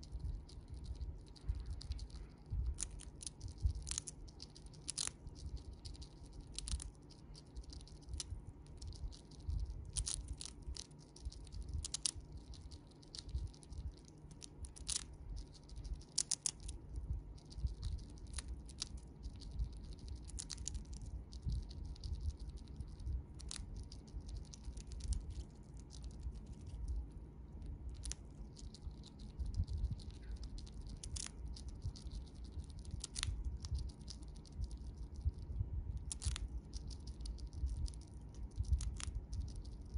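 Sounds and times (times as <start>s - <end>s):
chipmunk crunching a dried chip: 0.0s - 39.9s.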